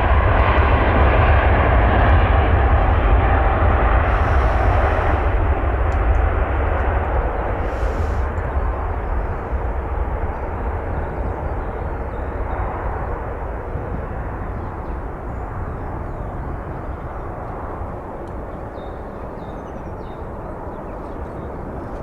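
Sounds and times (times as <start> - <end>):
jet airliner engine rumble: 0.0 - 22.0.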